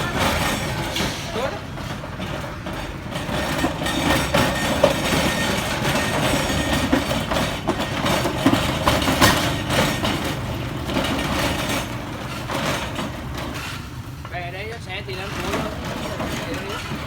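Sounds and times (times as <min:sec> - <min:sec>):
knocks and clatter: 0:00.0 - 0:17.0
vehicle engine running: 0:00.0 - 0:17.0.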